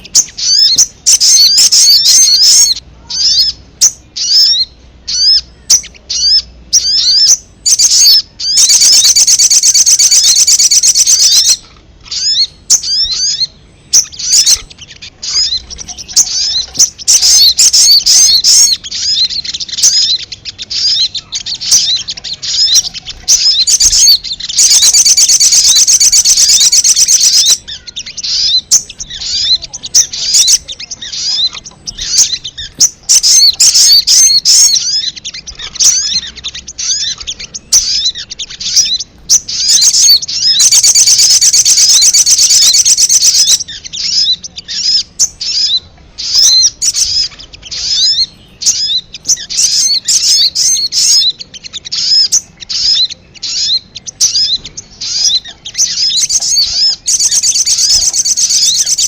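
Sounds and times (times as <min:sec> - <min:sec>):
sharp high bird chirps: 0:00.0 - 0:59.0.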